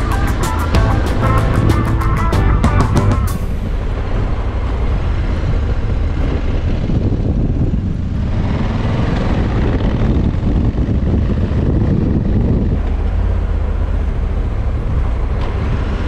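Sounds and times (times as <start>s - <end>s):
motorcycle engine rumble: 0.0s - 16.0s
wind rush on microphone: 0.0s - 16.0s.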